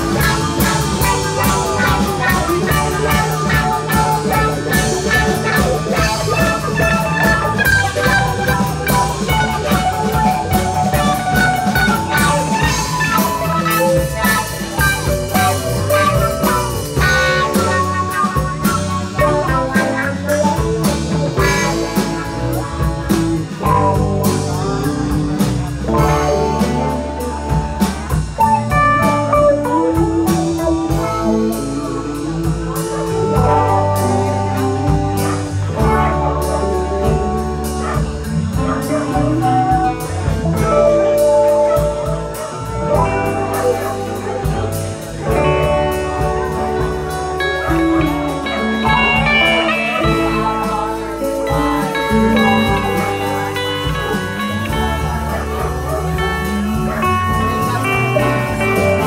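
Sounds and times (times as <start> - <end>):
bass: 0.0 - 59.0
drums with steady beat: 0.0 - 59.0
electric guitars: 0.0 - 59.0.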